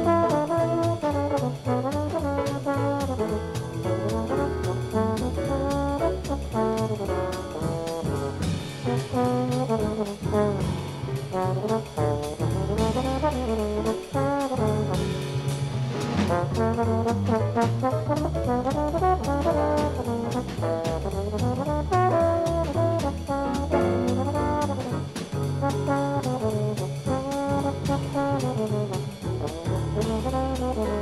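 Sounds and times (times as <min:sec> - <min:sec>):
drums: 0:00.0 - 0:31.0
jazz combo playing: 0:00.0 - 0:31.0
trumpet and trombone: 0:00.0 - 0:31.0.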